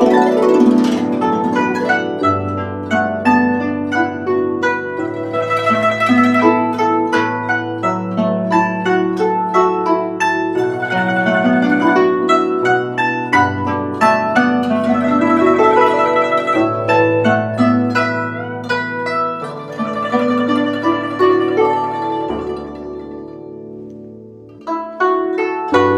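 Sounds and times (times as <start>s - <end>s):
plucked zither melody: 0.0s - 25.9s.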